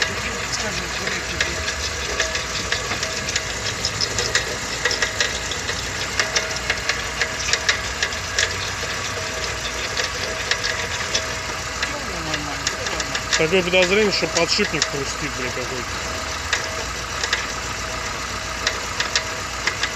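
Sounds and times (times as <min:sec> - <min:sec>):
car engine idling: 0:00.0 - 0:19.9
sharp clicking and knocking: 0:00.0 - 0:19.9.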